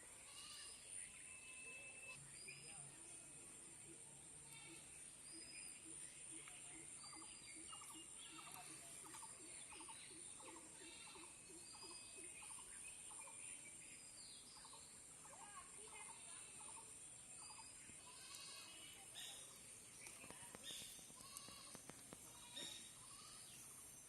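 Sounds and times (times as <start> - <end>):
birds chirping: 0.0 - 24.0
steady high-pitched hiss: 0.0 - 24.0.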